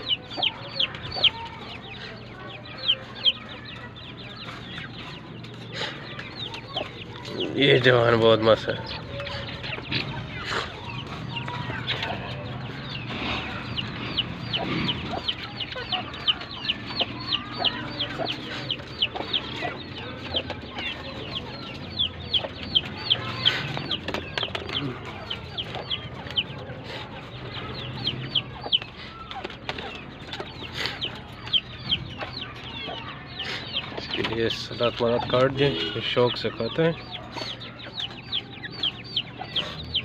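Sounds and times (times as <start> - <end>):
chicks peeping: 0.0 - 40.0.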